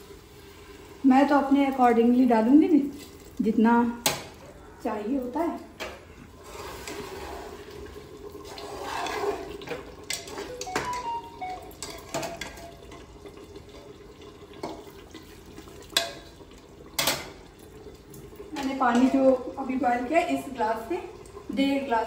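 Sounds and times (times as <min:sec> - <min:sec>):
water pouring and splashing: 0:01.8 - 0:04.4, 0:06.1 - 0:22.0.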